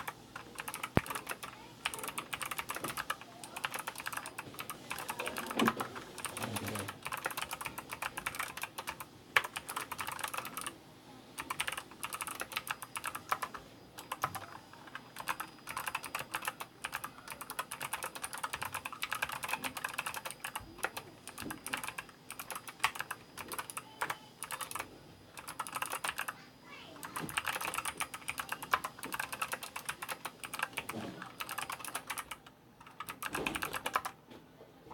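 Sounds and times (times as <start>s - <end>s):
fast keyboard typing: 0.0s - 10.8s, 11.4s - 26.4s, 27.0s - 34.2s.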